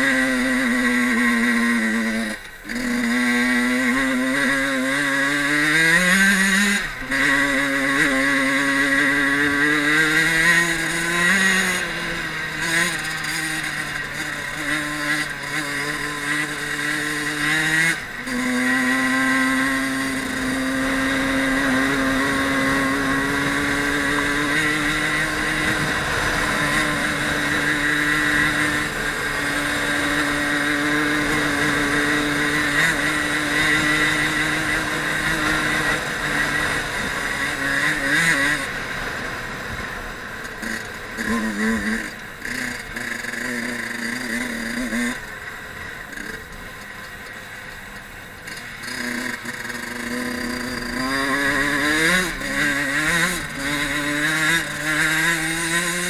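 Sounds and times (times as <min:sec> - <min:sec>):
two-stroke motorbike engine revving: 0:00.0 - 0:56.0.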